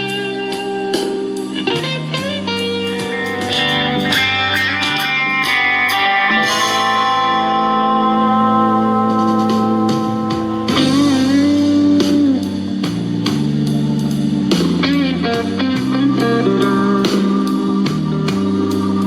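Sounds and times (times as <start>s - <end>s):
blues-rock music through speaker: 0.0s - 19.0s.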